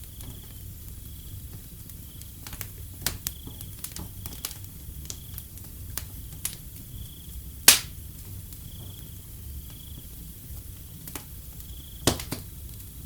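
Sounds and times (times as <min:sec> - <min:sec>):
crickets chirping: 0:00.0 - 0:13.0
low rumble of flames: 0:00.0 - 0:13.0
wood fire crackling and popping: 0:00.0 - 0:13.0.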